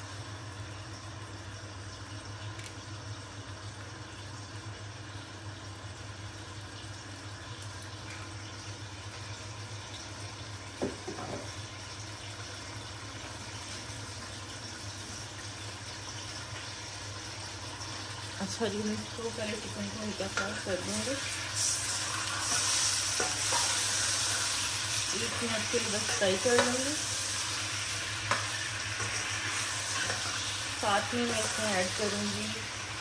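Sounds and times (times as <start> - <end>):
chicken sizzling and bubbling: 0.0 - 33.0.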